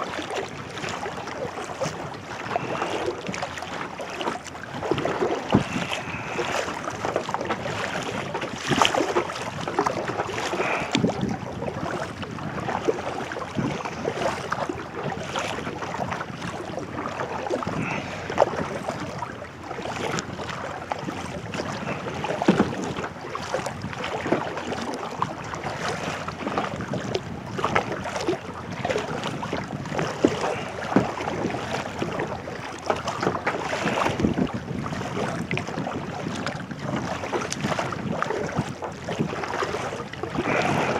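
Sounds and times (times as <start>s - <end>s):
paddle strokes splashing: 0.0s - 40.9s
water lapping: 0.0s - 40.9s
wind on microphone: 4.6s - 40.9s.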